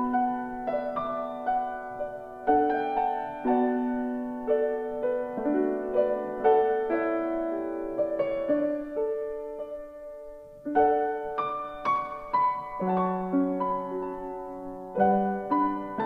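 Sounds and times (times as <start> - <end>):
solo piano piece: 0.0 - 16.0.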